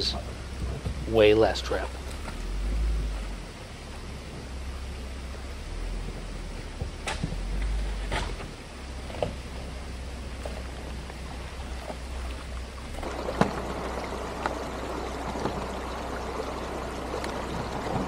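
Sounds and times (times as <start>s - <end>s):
low steady hum: 0.0s - 18.0s
stream trickling over rocks: 0.0s - 18.0s.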